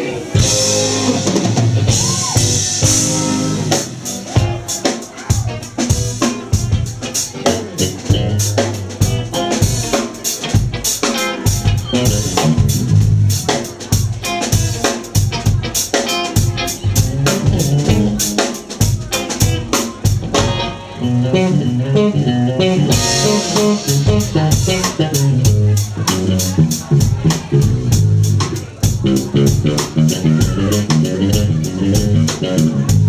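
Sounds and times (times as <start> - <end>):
drum kit hits: 0.0 - 20.8, 22.9 - 33.0
live rock band playing: 0.0 - 33.0.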